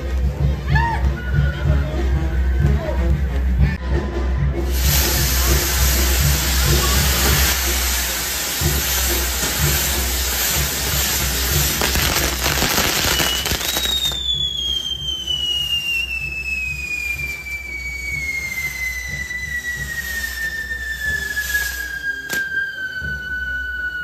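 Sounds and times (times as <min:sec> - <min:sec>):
firework jets hissing and crackling: 0:04.6 - 0:24.0
firework whistle gliding down: 0:04.7 - 0:24.0.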